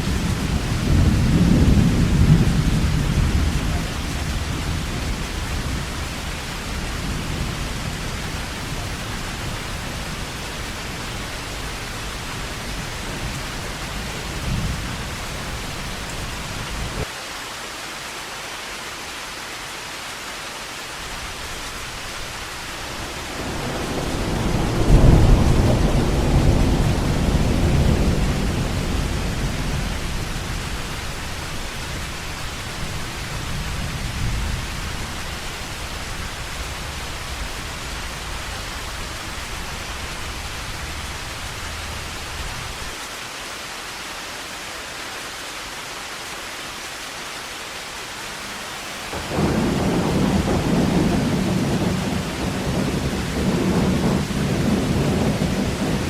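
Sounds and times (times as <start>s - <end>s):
rolling thunder: 0.0s - 17.1s, 21.2s - 42.9s, 49.0s - 56.0s
heavy rain: 0.0s - 56.0s.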